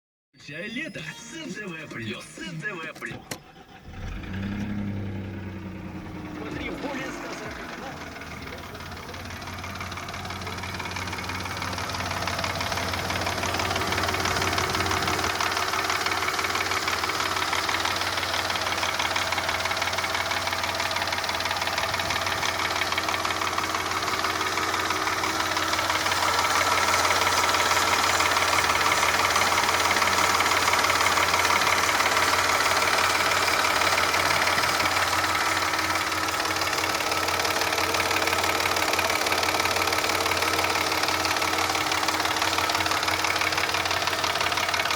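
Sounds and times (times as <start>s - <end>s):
engine running with fast knock: 3.3s - 44.9s.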